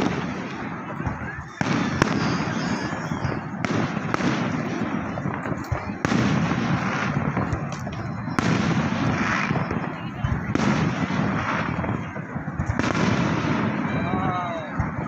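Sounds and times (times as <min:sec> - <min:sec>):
firework shells bursting with bangs: 0:00.0 - 0:15.0
fireworks crackle and rumble: 0:00.0 - 0:15.0.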